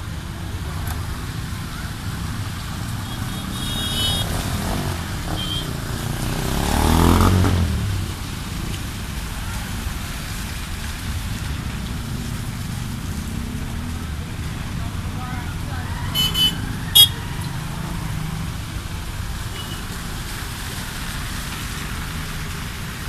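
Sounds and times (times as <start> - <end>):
motorcycle and car engines: 0.0 - 23.0.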